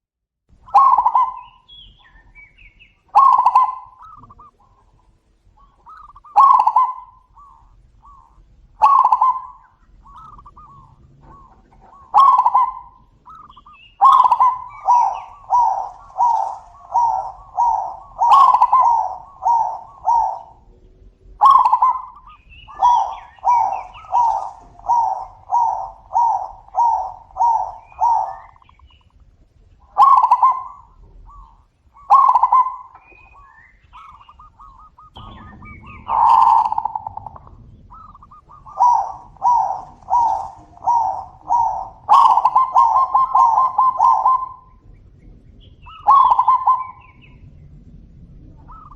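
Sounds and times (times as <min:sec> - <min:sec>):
doves cooing: 0:00.6 - 0:48.9.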